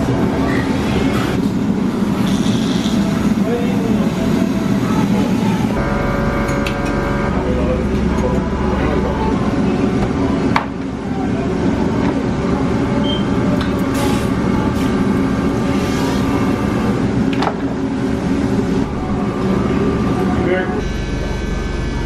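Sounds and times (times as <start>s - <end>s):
kitchen mechanical rumble: 0.0s - 22.0s.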